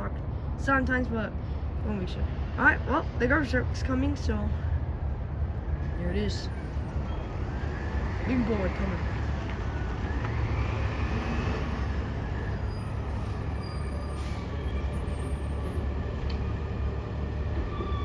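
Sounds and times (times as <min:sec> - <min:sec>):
truck diesel engine rumble: 0:00.0 - 0:17.8.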